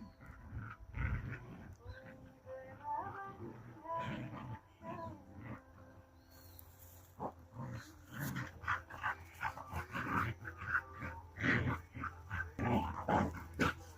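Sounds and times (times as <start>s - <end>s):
dogs growling in play: 0.0s - 13.9s.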